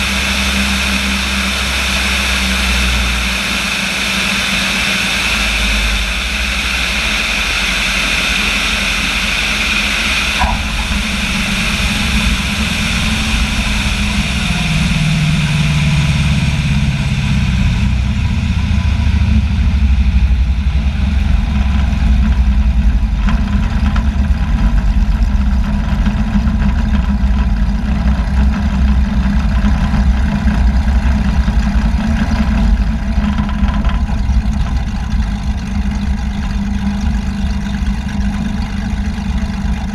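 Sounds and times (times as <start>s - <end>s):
propeller airplane engine rumble: 0.0s - 39.9s.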